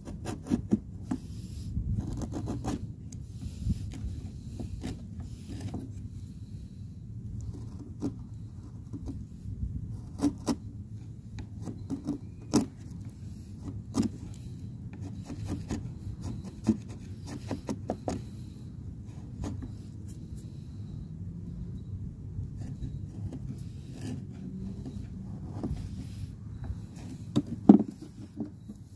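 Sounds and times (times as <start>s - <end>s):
chisel scraping wood: 0.0s - 6.0s, 7.4s - 9.3s, 9.9s - 20.6s, 22.5s - 28.9s.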